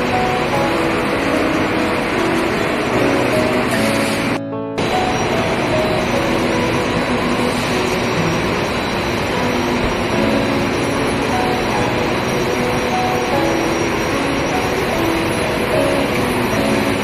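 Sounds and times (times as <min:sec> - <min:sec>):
coating and conveyor machinery: 0:00.0 - 0:17.0.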